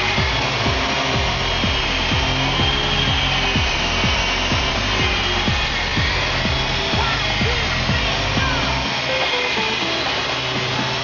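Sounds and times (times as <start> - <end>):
electric motors whining: 0.0 - 11.0
rotors whirring: 0.0 - 11.0.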